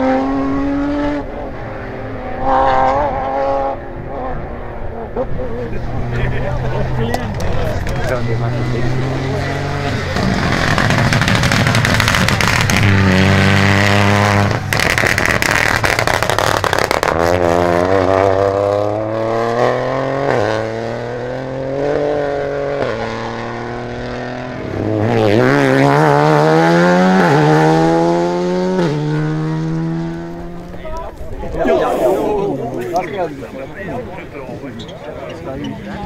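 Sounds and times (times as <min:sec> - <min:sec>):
rally car engines accelerating: 0:00.0 - 0:30.8.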